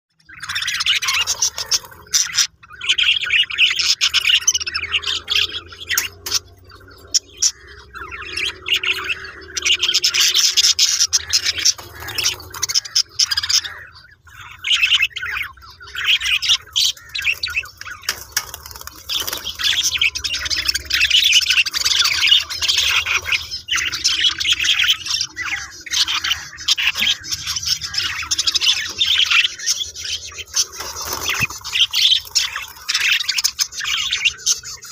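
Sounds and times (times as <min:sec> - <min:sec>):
budgerigars chattering and chirping: 0:00.2 - 0:34.9.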